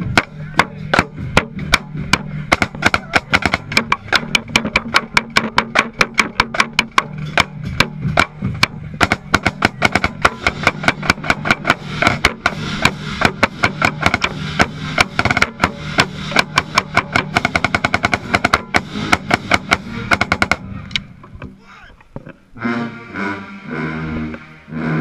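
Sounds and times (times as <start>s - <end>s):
snare drum rolls: 0.0s - 20.7s
marching band low notes: 0.0s - 25.0s.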